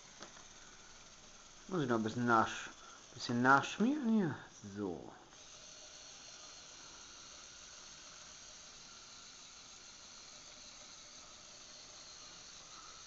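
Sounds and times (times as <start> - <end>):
faint whirring hiss of electric motors: 0.0 - 13.0.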